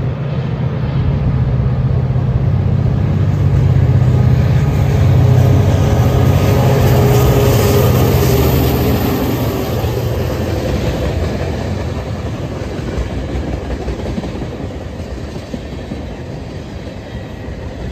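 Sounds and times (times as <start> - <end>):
diesel locomotive engine drone: 0.0 - 17.9
train wheels clattering on rails: 3.4 - 17.9.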